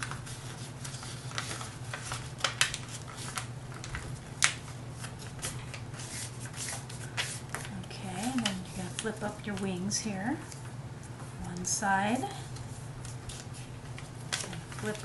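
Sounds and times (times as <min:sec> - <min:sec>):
paper rustling and crinkling: 0:00.0 - 0:09.6, 0:12.6 - 0:15.0.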